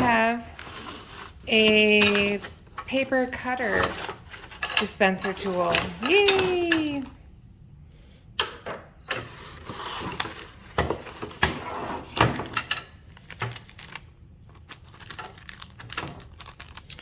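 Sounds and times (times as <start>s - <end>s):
packaging rustling: 0.0s - 7.1s, 9.2s - 17.0s.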